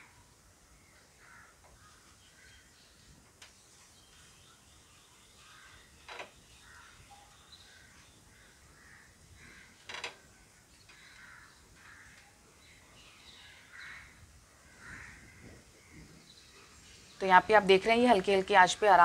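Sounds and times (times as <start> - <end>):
faint bird calls: 0.0 - 17.2.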